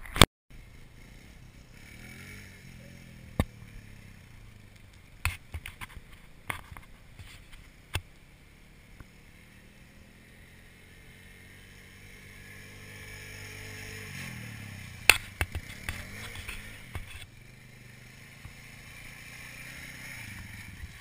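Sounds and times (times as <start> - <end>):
quad engine revving: 0.6 - 6.8, 8.6 - 21.0.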